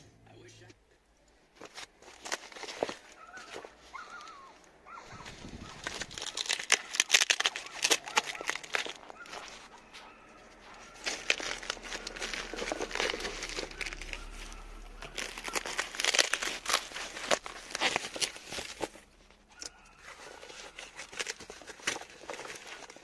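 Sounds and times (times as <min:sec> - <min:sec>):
packing wrap crinkling: 0:01.5 - 0:23.0.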